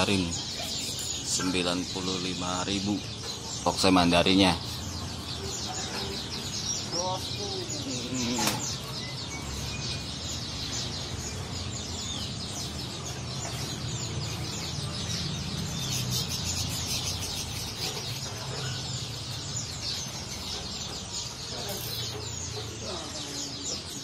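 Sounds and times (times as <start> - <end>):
caged birds chirping: 0.0 - 24.0.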